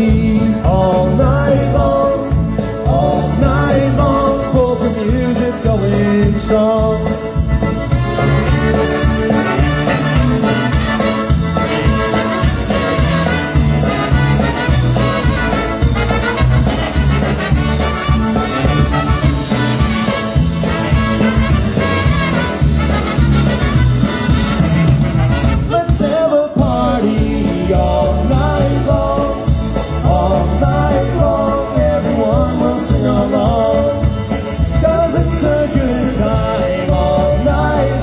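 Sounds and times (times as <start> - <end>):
polka band playing: 0.0 - 38.0.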